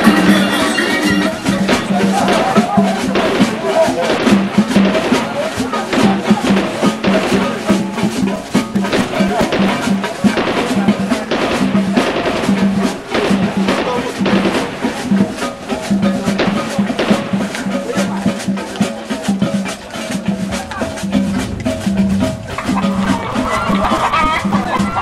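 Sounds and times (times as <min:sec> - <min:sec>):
percussion-led music with drums: 0:00.0 - 0:25.0.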